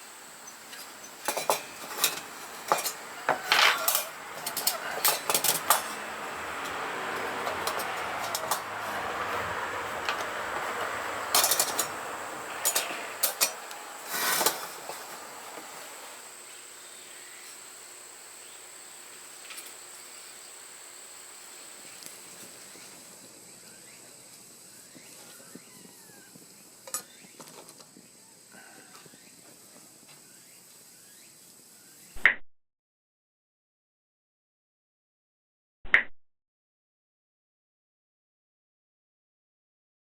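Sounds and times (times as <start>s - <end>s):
steady hiss: 0.0s - 32.2s.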